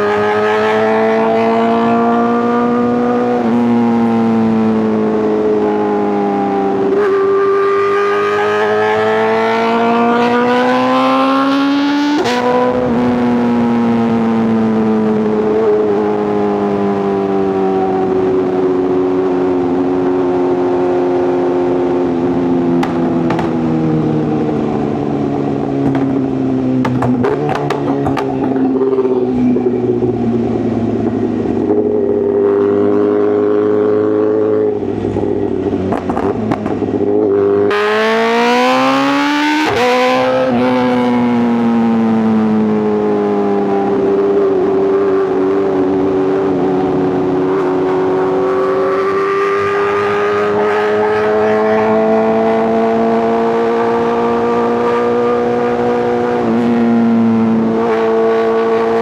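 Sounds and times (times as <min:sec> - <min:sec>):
motorcycle engine and exhaust revving: 0:00.0 - 0:59.0.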